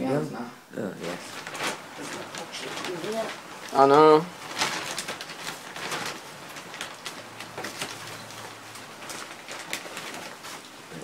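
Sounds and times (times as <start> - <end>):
plastic bags rustling: 1.0 - 11.0.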